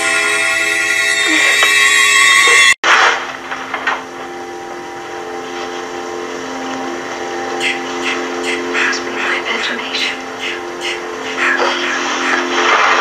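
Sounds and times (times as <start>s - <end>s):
low horror score chord: 0.0s - 13.0s.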